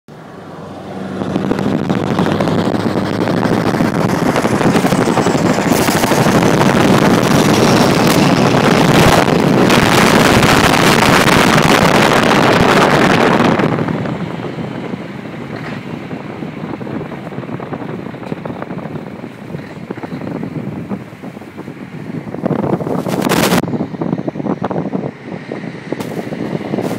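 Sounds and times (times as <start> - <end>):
loud rough truck engine: 0.1 - 26.9
wind on microphone: 0.2 - 26.9.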